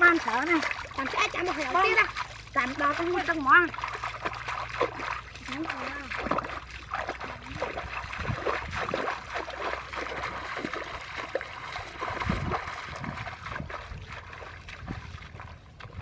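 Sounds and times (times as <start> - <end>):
footsteps splashing through muddy water: 0.0 - 16.0.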